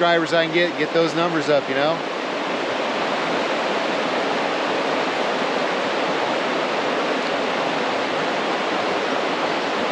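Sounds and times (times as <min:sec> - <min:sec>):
river water rushing: 0:00.0 - 0:09.9.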